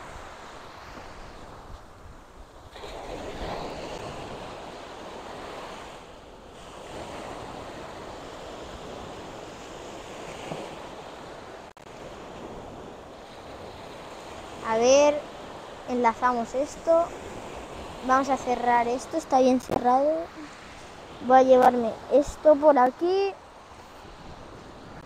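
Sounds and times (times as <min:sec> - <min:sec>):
small waves breaking on sand: 0:00.0 - 0:25.0.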